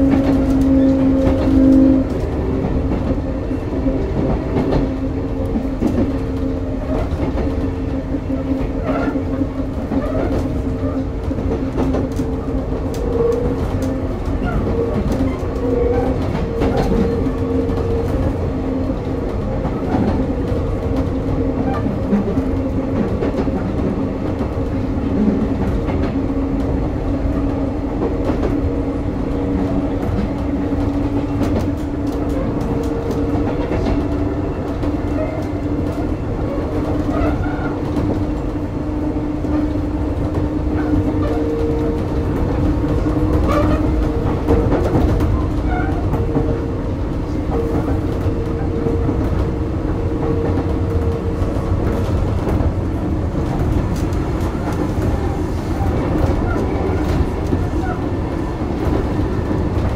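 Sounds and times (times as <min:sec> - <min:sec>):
train wheels rumbling: 0:00.0 - 0:59.9.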